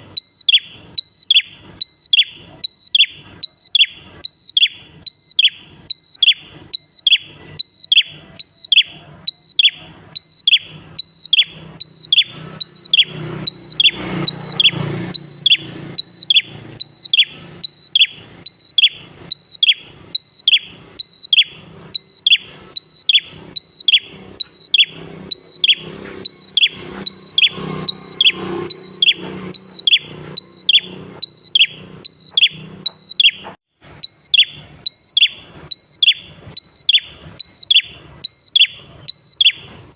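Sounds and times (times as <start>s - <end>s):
bird singing repeated call: 0.0s - 39.9s.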